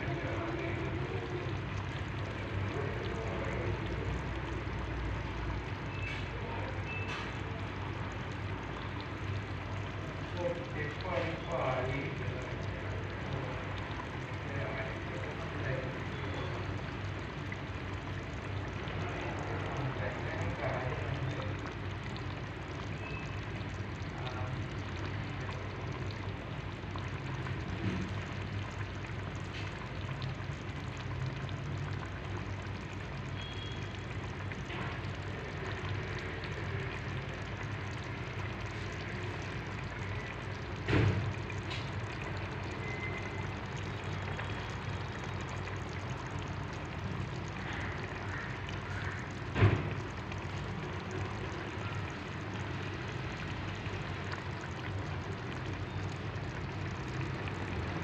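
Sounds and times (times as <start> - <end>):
stew bubbling in a pot: 0.0 - 58.0.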